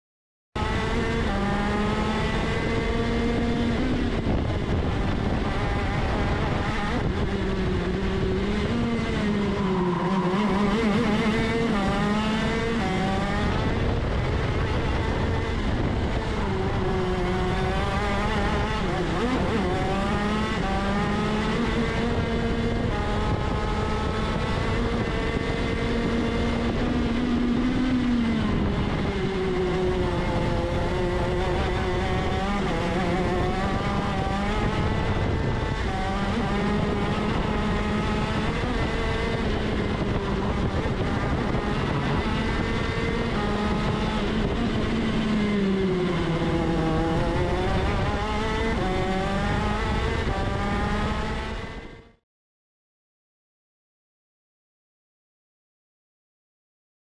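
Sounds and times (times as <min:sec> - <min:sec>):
kart engine racing: 0:00.6 - 0:52.2.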